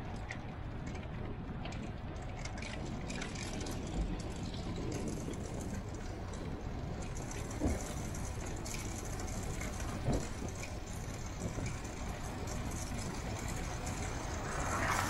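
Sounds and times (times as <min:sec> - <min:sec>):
car tyres and engine rumble: 0:00.0 - 0:15.0
light rattles: 0:00.1 - 0:15.0.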